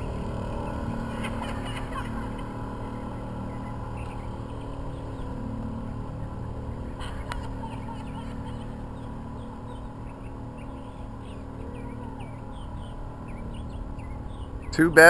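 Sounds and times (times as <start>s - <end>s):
motorboat engine drone: 0.0s - 15.0s
wind: 0.0s - 15.0s.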